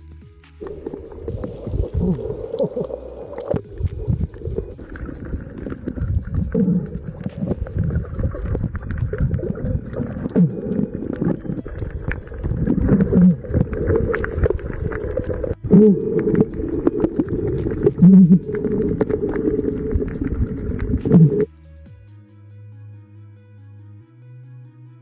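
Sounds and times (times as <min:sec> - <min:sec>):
small underwater clicks: 0:00.6 - 0:21.5
underwater water rushing and bubbling: 0:00.6 - 0:21.5.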